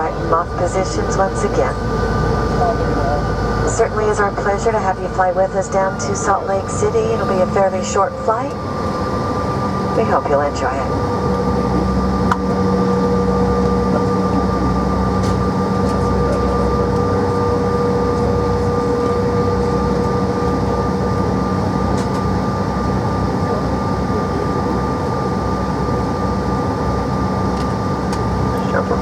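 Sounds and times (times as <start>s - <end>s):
jet engines whining over rumble: 0.0s - 29.0s.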